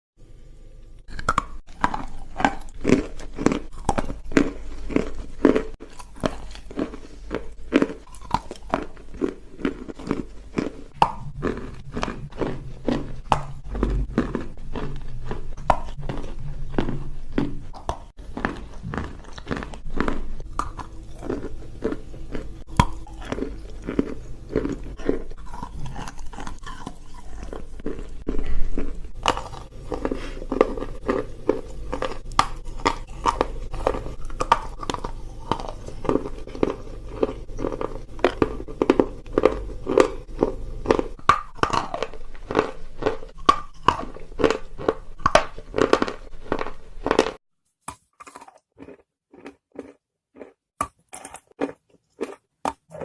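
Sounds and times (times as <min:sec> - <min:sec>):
background hum: 0:00.2 - 0:47.4
chewing crunches: 0:01.0 - 0:53.0.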